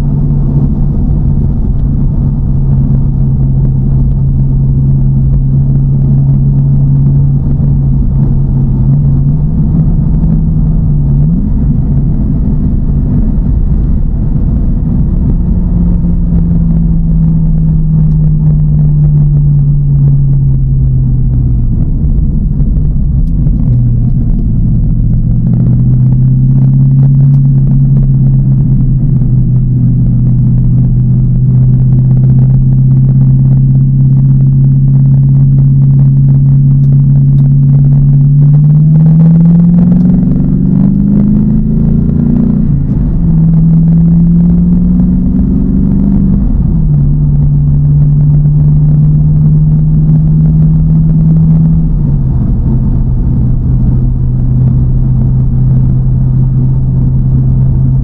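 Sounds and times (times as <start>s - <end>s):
car engine accelerating: 0.0s - 58.0s
road rumble: 0.0s - 58.0s.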